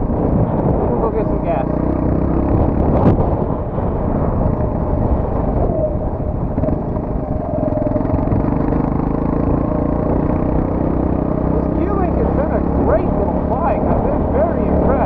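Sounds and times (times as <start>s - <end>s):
motorcycle engine running: 0.0s - 15.0s
wind rumbling on microphone: 0.0s - 15.0s.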